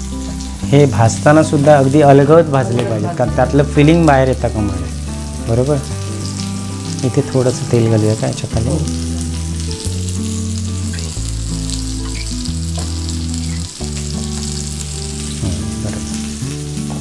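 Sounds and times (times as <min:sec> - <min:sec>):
fish shallow-frying in oil: 0:00.0 - 0:17.0.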